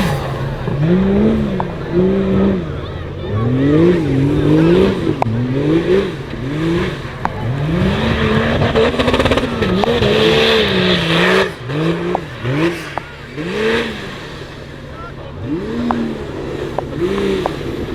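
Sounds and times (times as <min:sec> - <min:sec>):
engine revving hard: 0:00.0 - 0:17.9.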